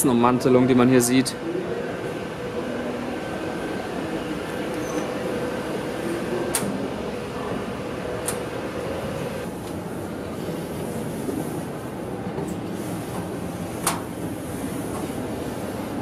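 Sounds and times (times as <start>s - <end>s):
ventilation rushing hum: 0.0s - 16.0s.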